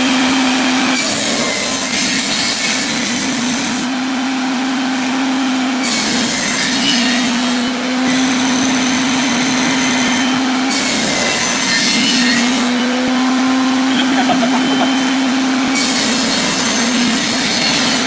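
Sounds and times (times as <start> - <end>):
saw blade cutting wood: 0.0 - 18.0
table saw humming: 0.0 - 18.0.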